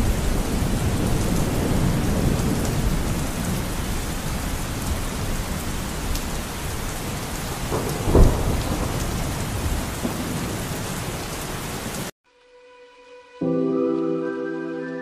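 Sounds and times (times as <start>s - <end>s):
heavy rain hissing: 0.0s - 12.1s.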